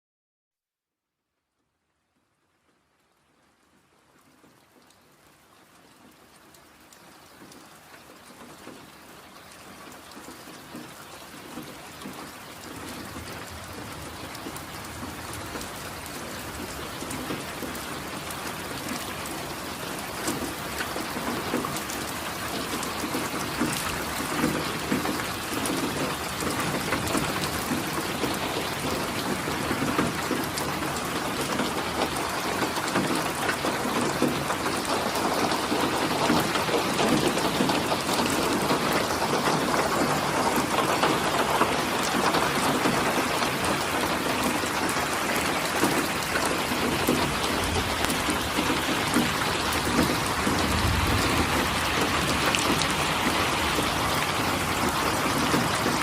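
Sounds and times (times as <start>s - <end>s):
rain drops ticking on a surface: 1.1s - 56.0s.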